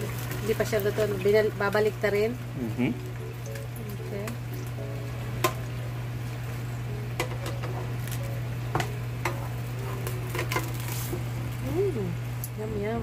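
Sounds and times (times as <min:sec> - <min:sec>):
chicken sizzling: 0:00.0 - 0:13.0
steady low hum: 0:00.0 - 0:13.0.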